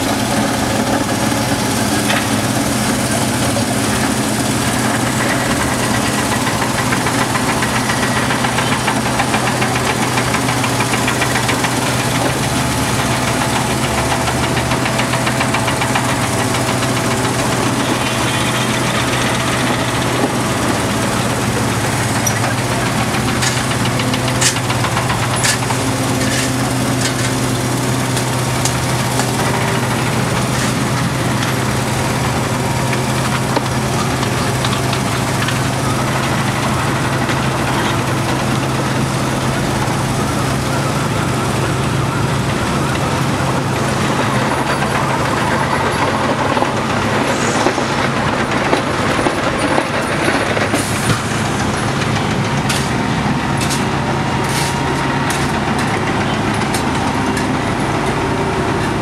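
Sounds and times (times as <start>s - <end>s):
milling machine engine hum: 0.0s - 59.0s.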